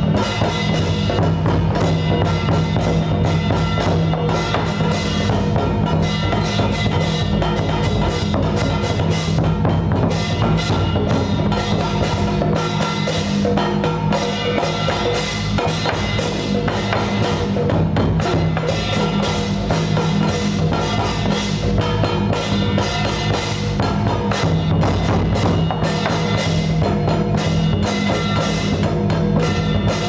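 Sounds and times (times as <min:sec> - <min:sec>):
wood block and drum strikes: 0:00.0 - 0:30.0.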